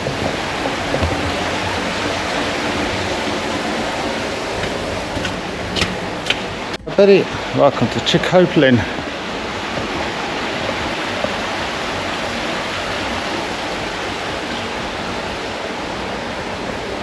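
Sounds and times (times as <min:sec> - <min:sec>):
water rushing in stream: 0:00.0 - 0:17.0.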